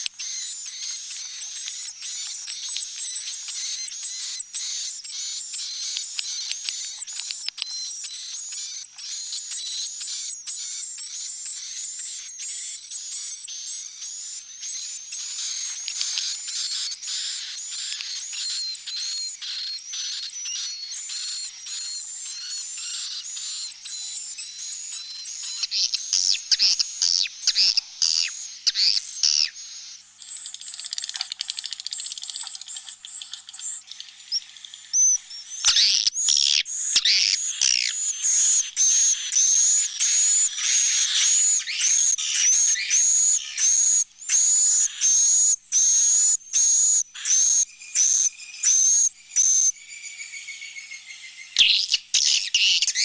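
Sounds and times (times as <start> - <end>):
repeated bird chirps: 0.0 - 53.0
swiftlets chirping and twittering: 0.0 - 53.0.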